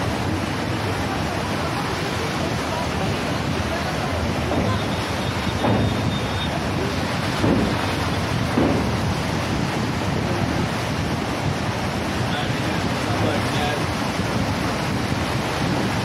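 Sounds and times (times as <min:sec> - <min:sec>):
rough sea water churning: 0:00.0 - 0:16.0
wind buffeting microphone: 0:00.0 - 0:16.0.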